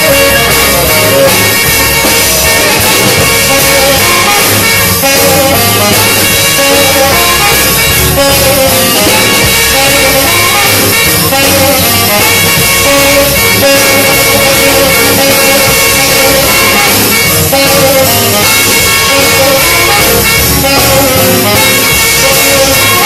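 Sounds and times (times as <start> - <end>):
drums: 0.0 - 23.0
saxophones: 0.0 - 23.0.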